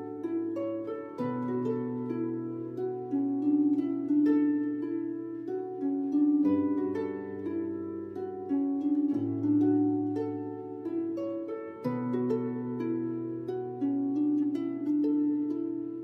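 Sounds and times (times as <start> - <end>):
plucked string melody: 0.0 - 16.0.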